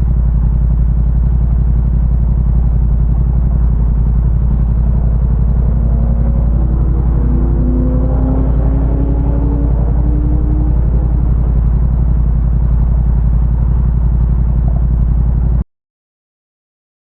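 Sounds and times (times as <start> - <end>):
motorcycle engine idling: 0.0 - 15.6.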